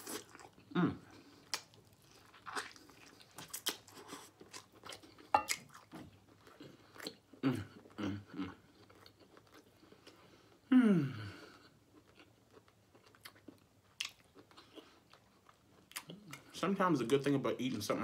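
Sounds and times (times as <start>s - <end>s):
chewing with lip smacks: 0.0s - 10.6s, 11.9s - 16.6s.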